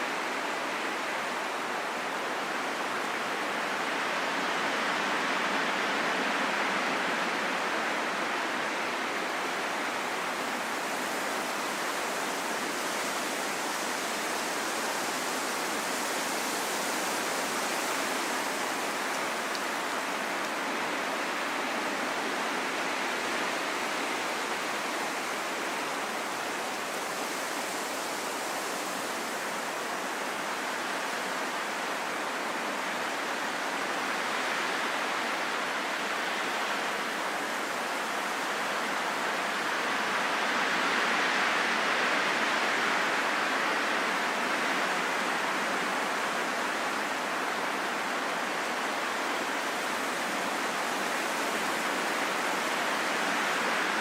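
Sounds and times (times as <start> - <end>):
steady wind hiss: 0.0 - 54.0.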